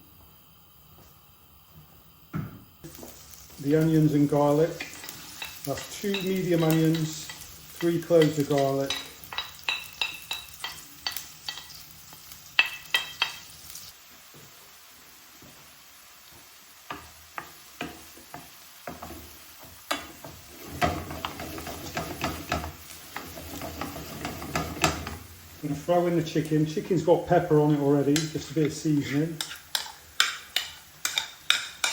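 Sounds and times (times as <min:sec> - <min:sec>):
onions sizzling in a pan: 0:00.0 - 0:31.9
utensil stirring and knocking pan: 0:02.4 - 0:13.6, 0:16.9 - 0:31.9.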